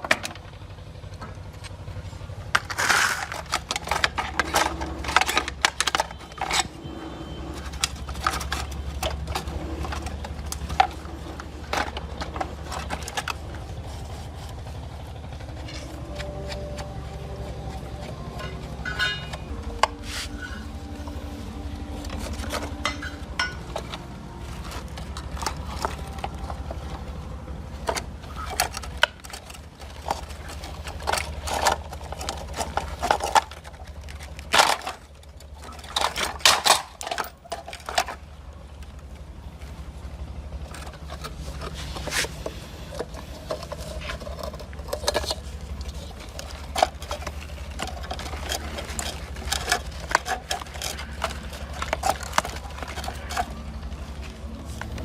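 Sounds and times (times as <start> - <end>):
steady low hum: 0.0 - 55.0
metal tools clinking: 2.6 - 38.4, 40.5 - 55.0.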